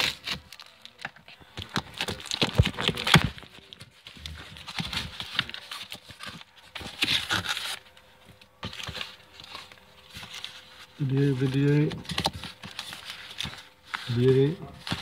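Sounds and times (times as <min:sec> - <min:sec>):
cardboard scraping and rustling: 0:00.0 - 0:15.0.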